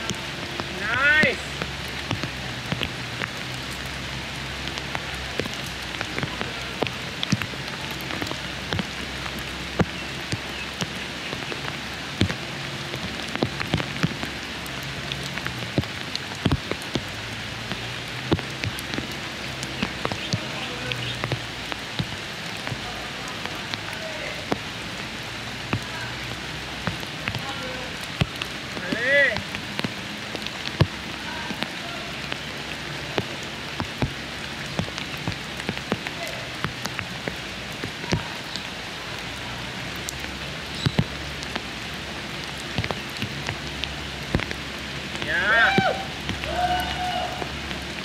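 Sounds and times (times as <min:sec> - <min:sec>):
raindrops tapping nearby: 0:00.0 - 0:48.0
steady rain hiss: 0:00.0 - 0:48.0.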